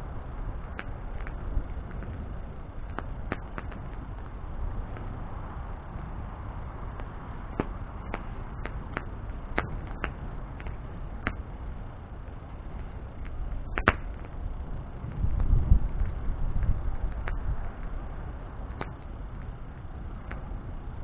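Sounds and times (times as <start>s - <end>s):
bonfire crackling and popping: 0.0s - 21.0s
low steady rumble: 0.0s - 21.0s.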